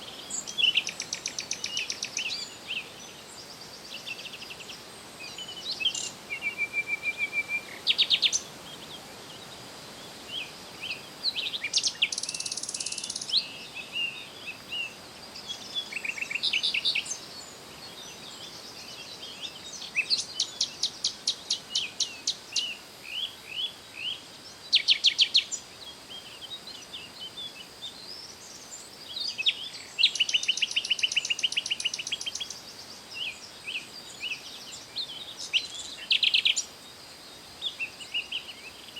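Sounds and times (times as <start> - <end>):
songbirds singing and trilling: 0.0 - 38.9.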